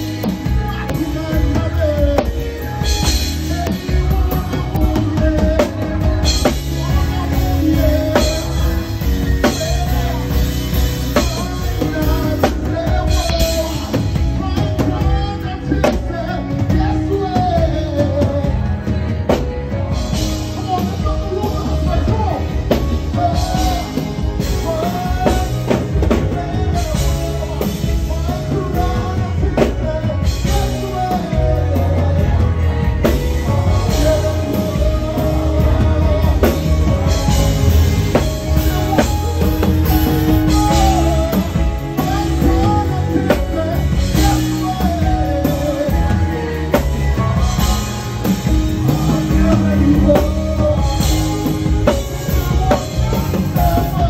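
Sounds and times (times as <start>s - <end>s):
live gospel band playing: 0.0s - 54.0s
man singing: 0.0s - 54.0s.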